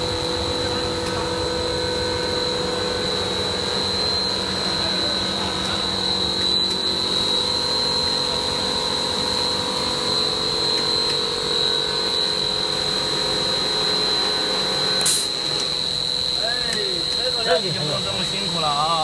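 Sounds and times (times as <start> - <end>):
high-pitched whine: 0.0 - 19.0
machine hum: 0.0 - 19.0.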